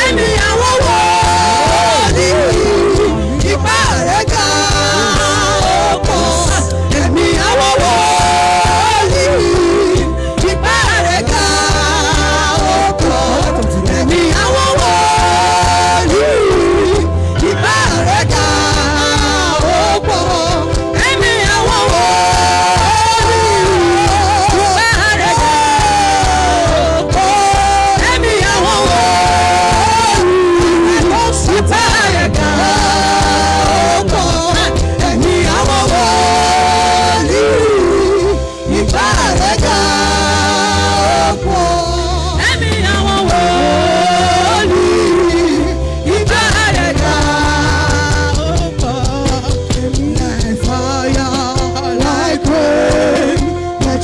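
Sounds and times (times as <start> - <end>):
low musical accompaniment: 0.0 - 54.0
person singing: 0.0 - 54.0.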